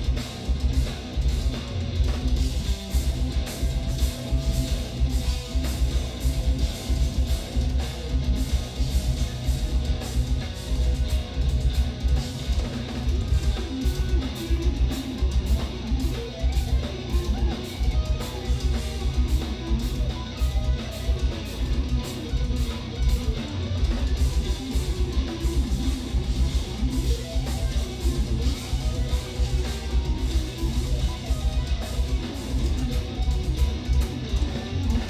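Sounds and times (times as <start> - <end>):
drums with fast kick drum: 0.0 - 35.0
low-tuned electric guitars: 0.0 - 35.0.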